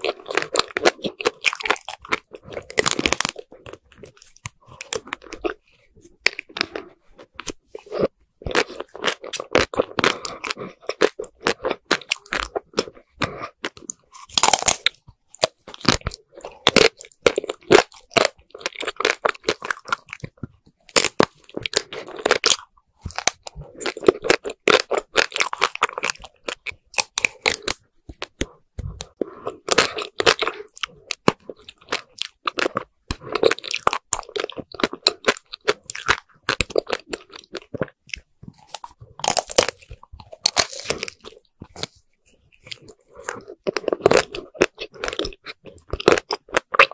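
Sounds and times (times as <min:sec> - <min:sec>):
chewing crunchy ice cream bars: 0:00.0 - 0:46.9.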